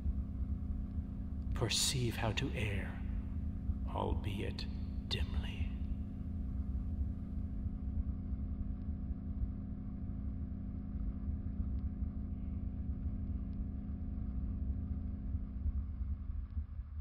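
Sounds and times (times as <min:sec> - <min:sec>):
held hum: 0:00.0 - 0:17.0
low rumble: 0:00.0 - 0:17.0.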